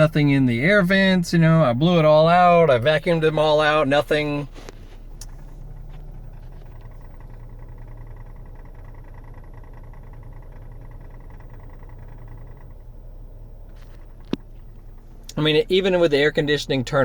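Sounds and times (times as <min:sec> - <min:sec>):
car engine idling: 0:00.0 - 0:17.0
rapid ticking from dashboard: 0:00.0 - 0:17.0.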